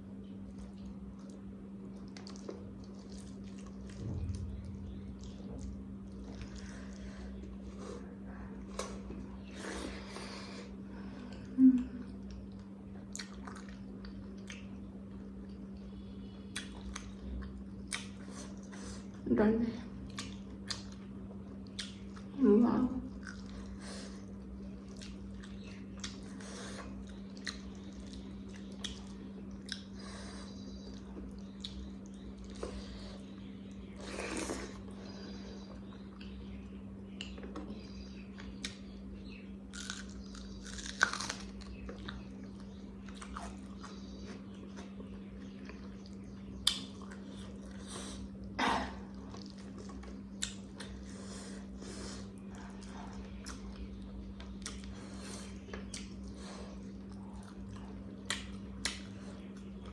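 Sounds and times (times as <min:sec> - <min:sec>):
steady low hum: 0:00.0 - 0:59.9
person chewing food: 0:00.5 - 0:19.2, 0:20.0 - 0:22.4, 0:23.1 - 0:36.5, 0:37.1 - 0:59.9.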